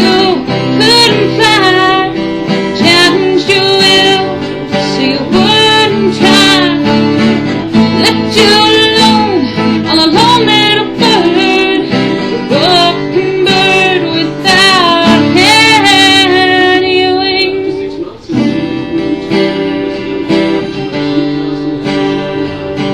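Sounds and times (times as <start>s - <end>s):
guitar accompaniment: 0.0s - 22.9s
person singing: 0.0s - 22.9s.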